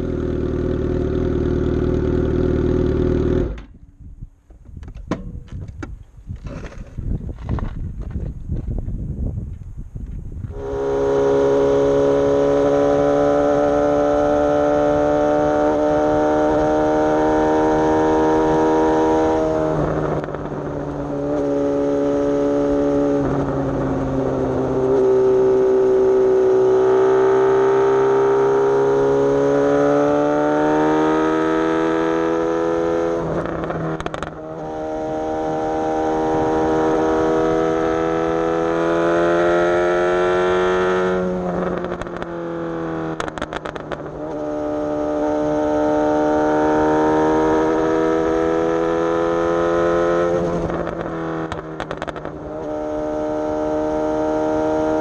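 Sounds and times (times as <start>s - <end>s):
motorcycle engine under load: 0.0s - 8.9s, 9.5s - 55.0s.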